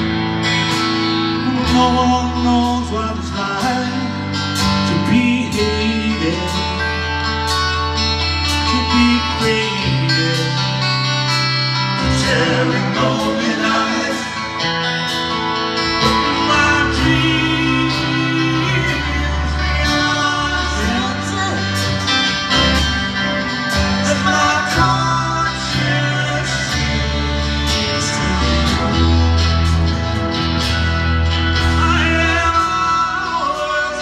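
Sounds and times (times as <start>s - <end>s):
bass line: 0.0s - 34.0s
strummed guitar: 0.0s - 34.0s
lead vocal singing: 1.3s - 7.4s, 8.5s - 29.7s, 31.6s - 34.0s.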